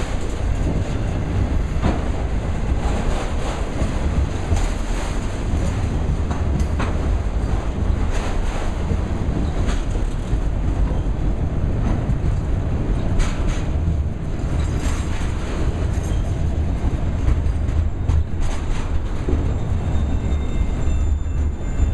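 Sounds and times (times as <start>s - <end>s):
freight train rolling past: 0.0s - 21.9s.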